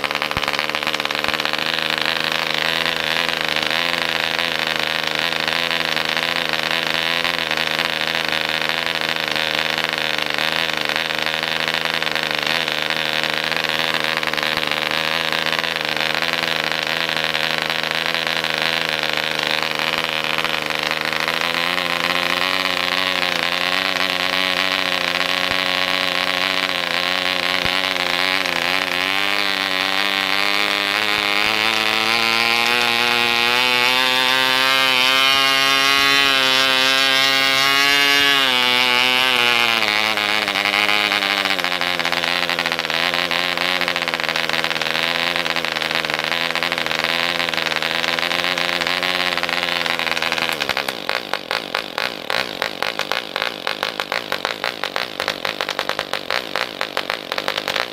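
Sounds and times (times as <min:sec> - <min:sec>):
model diesel engine running: 0:00.0 - 0:57.9.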